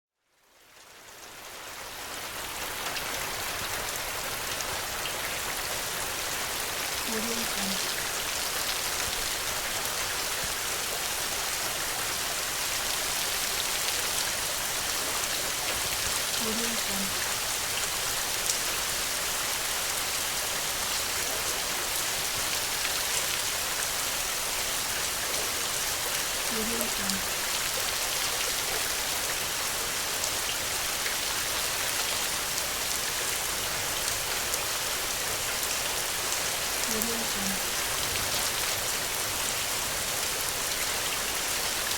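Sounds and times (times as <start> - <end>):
steady rain falling: 0.2 - 41.9.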